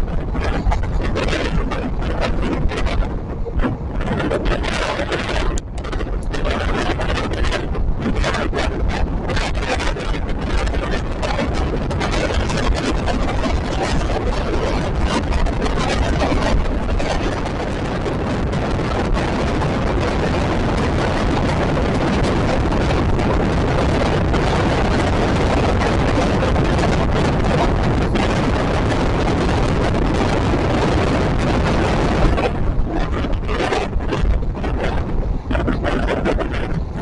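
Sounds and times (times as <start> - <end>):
wind noise: 0.0 - 37.0.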